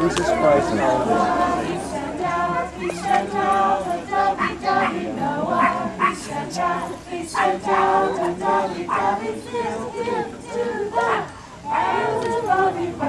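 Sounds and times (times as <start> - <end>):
group with children singing: 0.0 - 13.0.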